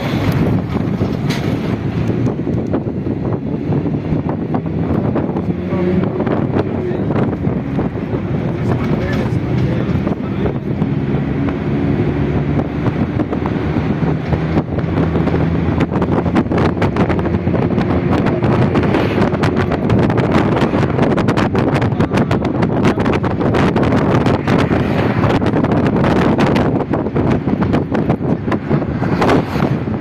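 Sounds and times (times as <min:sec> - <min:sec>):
vehicle running: 0:00.0 - 0:30.0
wind buffeting microphone: 0:00.0 - 0:30.0.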